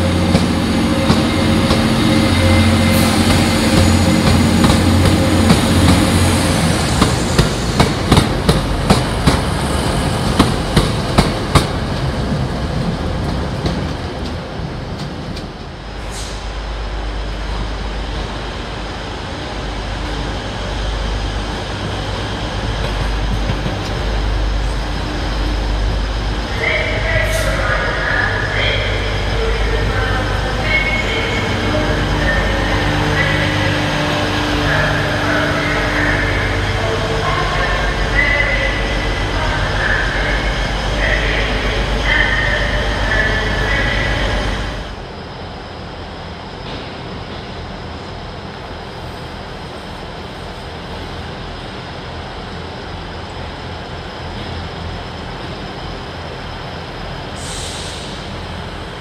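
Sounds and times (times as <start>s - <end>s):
diesel train engine humming: 0.0s - 59.0s.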